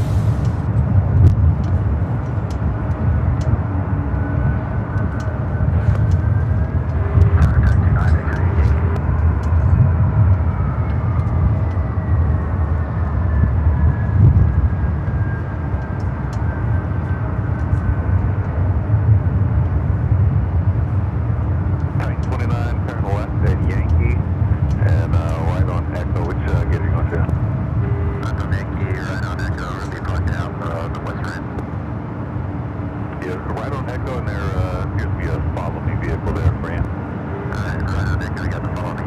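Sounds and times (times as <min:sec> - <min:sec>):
faint engine whine: 0:00.0 - 0:39.0
jet engines rumbling: 0:00.0 - 0:39.0.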